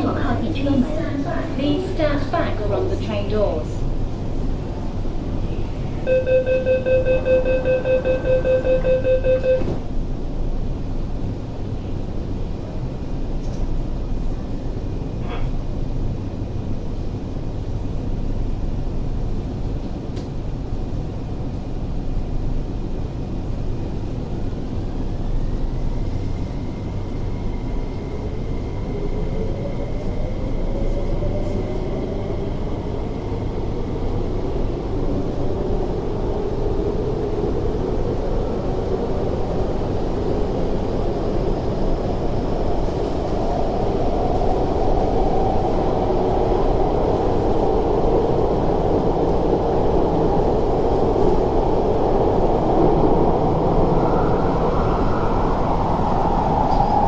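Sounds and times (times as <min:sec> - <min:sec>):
train interior rumble: 0:00.0 - 0:57.0.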